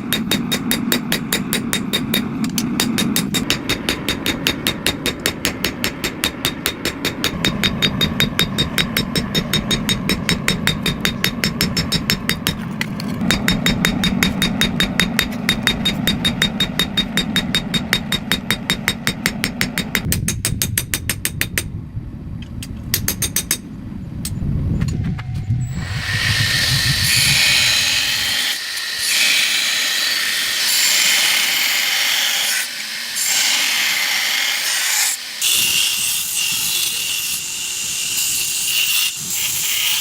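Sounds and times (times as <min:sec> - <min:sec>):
power hammer pounding steel: 0:00.0 - 0:21.7, 0:25.8 - 0:40.0.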